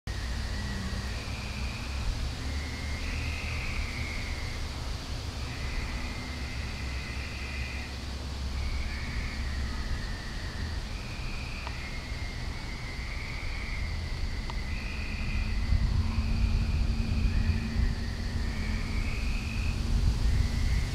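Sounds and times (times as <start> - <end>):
frogs calling: 0.1 - 20.9
steady low rumble: 0.1 - 20.9.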